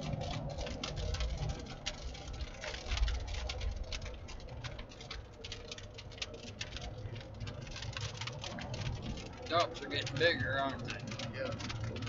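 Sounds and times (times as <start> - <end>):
car rumbling on road: 0.0 - 12.0
raindrops pattering on vehicle: 0.0 - 12.0.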